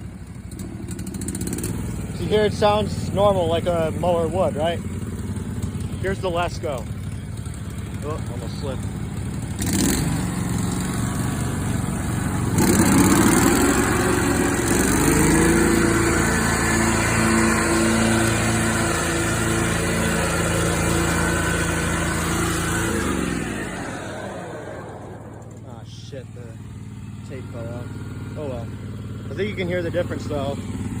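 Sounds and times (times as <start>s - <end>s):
lawn mower running with blade noise: 0.0s - 31.0s.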